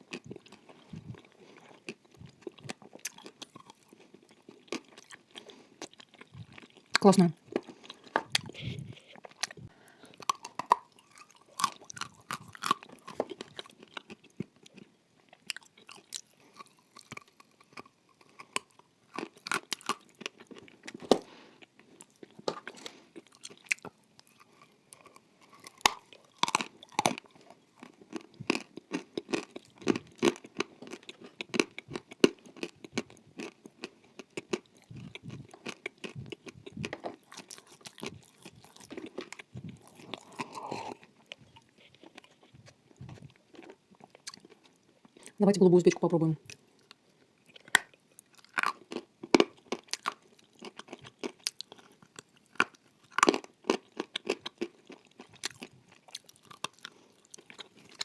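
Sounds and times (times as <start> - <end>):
crunchy bites: 0.0 - 8.6, 9.2 - 21.3, 22.0 - 45.3, 46.5 - 58.0
chewing: 0.0 - 45.4, 46.5 - 58.0.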